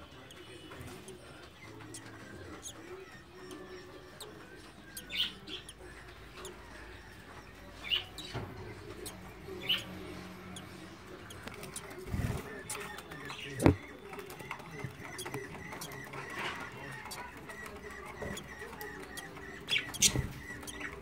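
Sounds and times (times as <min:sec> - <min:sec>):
budgie chirping: 0:00.0 - 0:21.0.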